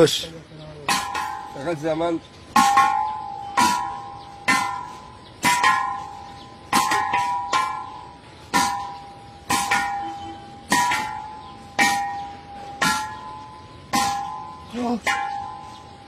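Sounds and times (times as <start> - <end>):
punches on ringing gas cylinder: 0.9 - 16.0.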